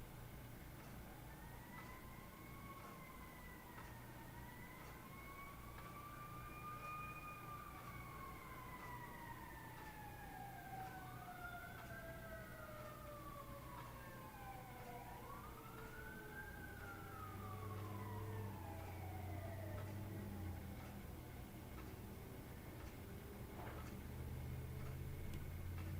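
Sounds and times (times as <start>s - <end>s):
faint emergency siren wailing: 0.9s - 25.9s.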